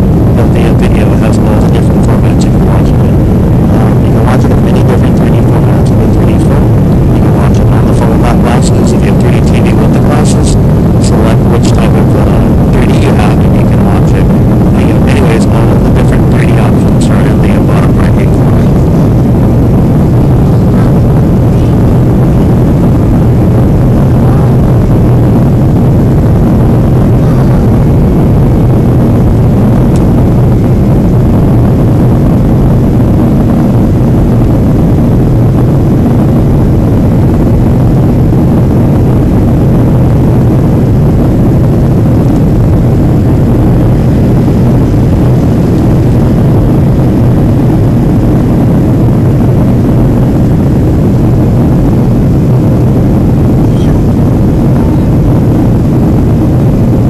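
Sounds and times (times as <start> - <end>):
constant hum: 0.0 - 57.0
jet engine rumble in cabin: 0.0 - 57.0.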